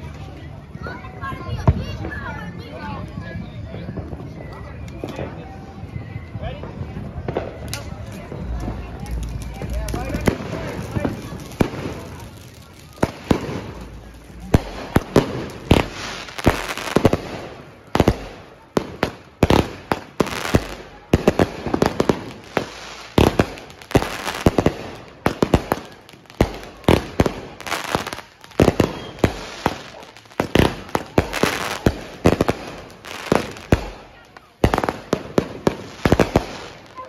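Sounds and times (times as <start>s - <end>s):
fireworks crackling: 0.0s - 37.0s
fireworks bangs: 6.6s - 37.0s.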